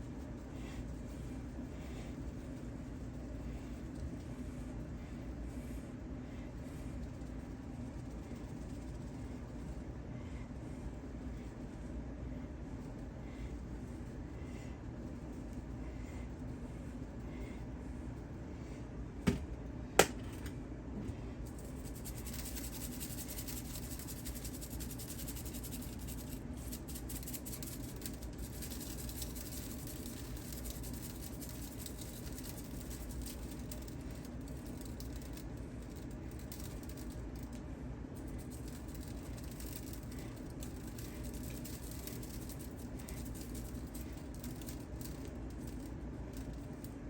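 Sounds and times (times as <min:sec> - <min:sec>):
low room hum: 0:00.0 - 0:47.0.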